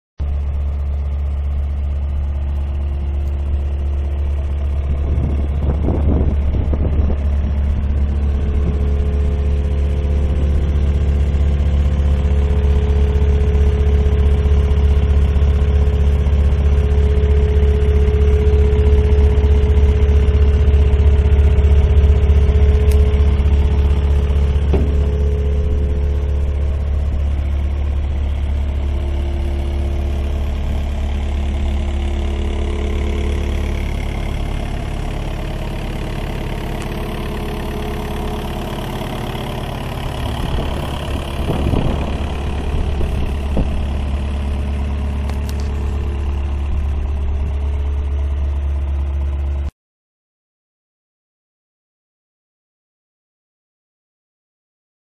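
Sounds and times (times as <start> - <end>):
diesel engine idling: 0.2 - 49.7.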